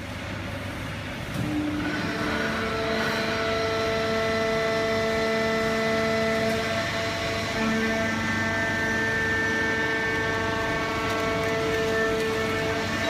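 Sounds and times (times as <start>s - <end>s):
baler and conveyor running: 0.0s - 13.0s
steady whining tones: 1.4s - 13.0s.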